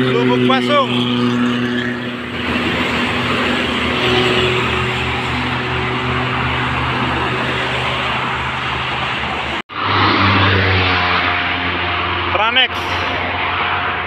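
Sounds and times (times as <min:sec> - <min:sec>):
bus engine hum: 0:00.0 - 0:14.0
passing traffic: 0:00.0 - 0:14.0.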